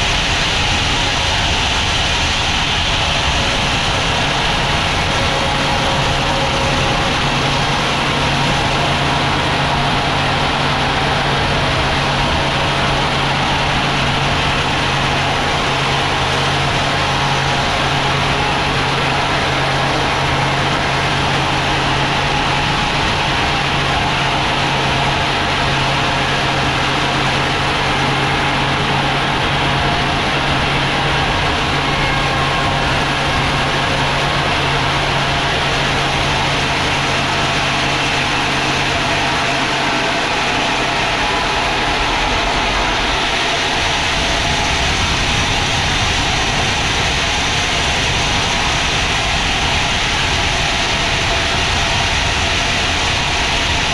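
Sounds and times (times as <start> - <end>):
sawmill machinery droning: 0.0 - 53.9.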